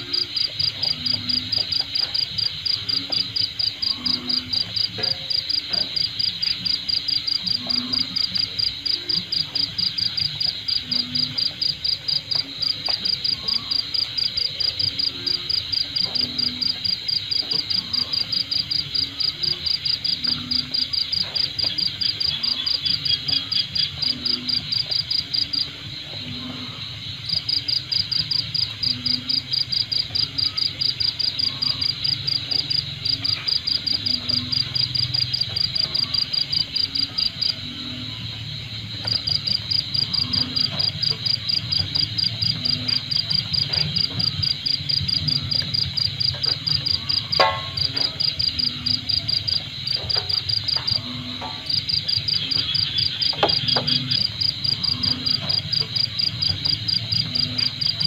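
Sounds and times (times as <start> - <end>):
insect chirping: 0.0 - 58.0.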